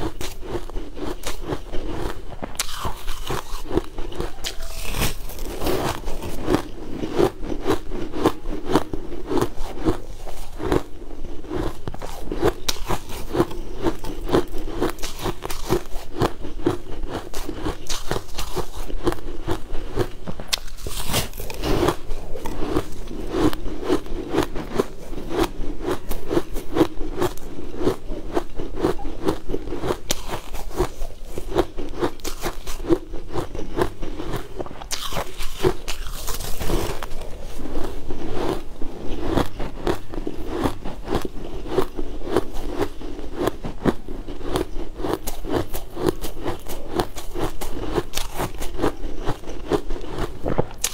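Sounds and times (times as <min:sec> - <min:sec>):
ice crunching being chewed: 0:00.0 - 0:50.9
long crushing crackles: 0:00.0 - 0:50.9.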